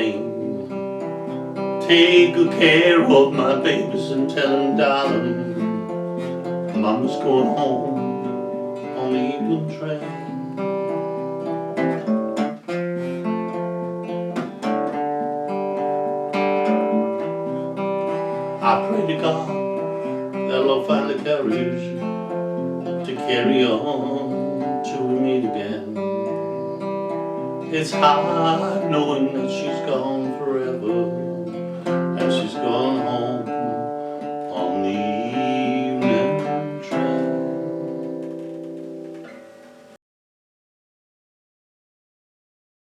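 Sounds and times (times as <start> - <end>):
person singing country song: 0.0 - 38.3
acoustic guitar playing: 0.0 - 40.0.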